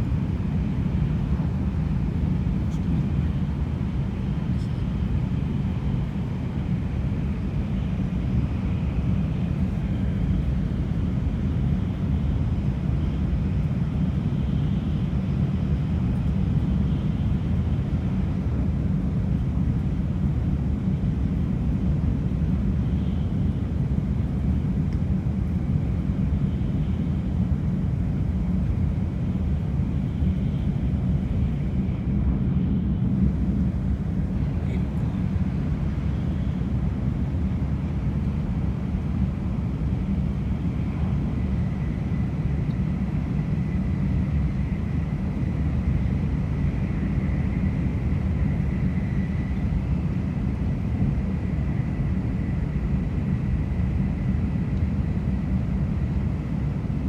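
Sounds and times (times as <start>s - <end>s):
train cabin low rumble: 0.0s - 57.0s.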